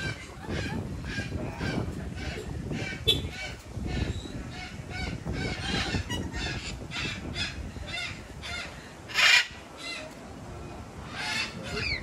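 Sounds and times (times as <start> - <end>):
parrots honking calls: 0.1 - 10.0.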